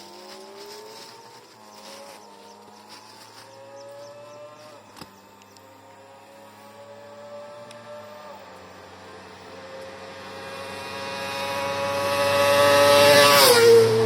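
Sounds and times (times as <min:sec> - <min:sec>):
distant vehicle engine drone: 0:00.0 - 0:14.0.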